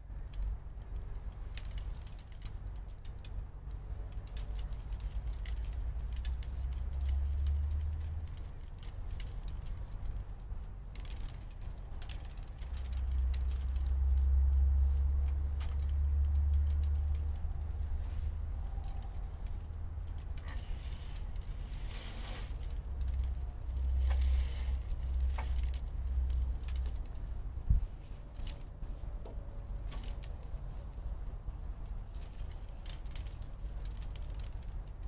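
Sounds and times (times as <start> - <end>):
light clicks and rattles: 0.0 - 35.0
wind buffeting microphone: 0.0 - 35.0.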